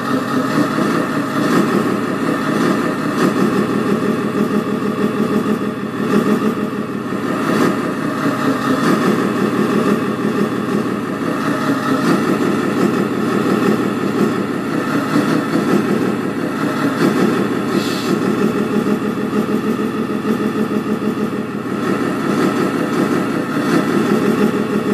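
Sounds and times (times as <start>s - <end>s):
simulated diesel engine running: 0.0s - 24.9s.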